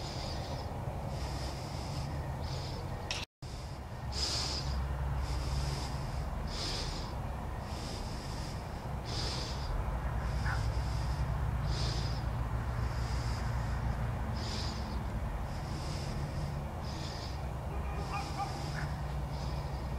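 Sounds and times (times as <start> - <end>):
low steady hum: 0.0 - 19.9
person breathing: 0.0 - 19.9.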